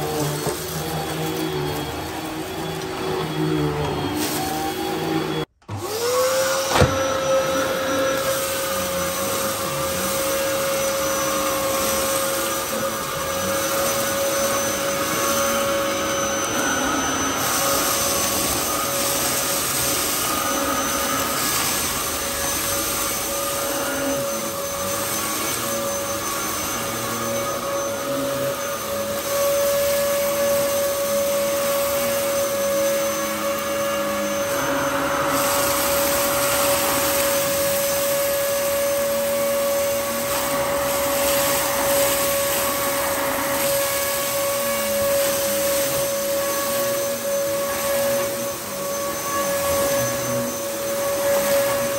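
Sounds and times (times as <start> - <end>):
vacuum cleaner motor whine: 0.0 - 51.9
vacuum sucking up cornflakes: 0.0 - 51.9.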